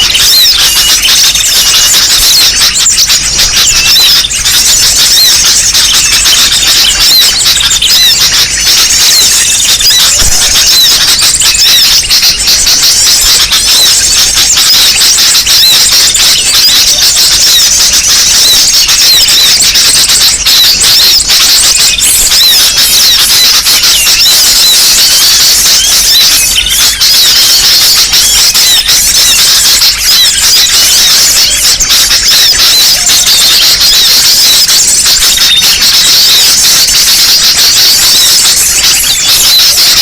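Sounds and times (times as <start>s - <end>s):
flock of small birds chirping: 0.0s - 40.0s.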